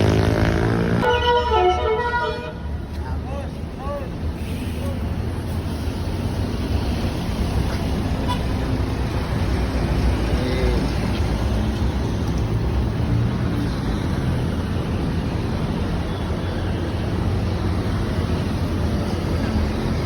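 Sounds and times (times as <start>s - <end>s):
bus engine rumbling: 0.0s - 20.0s
road traffic noise: 0.0s - 20.0s.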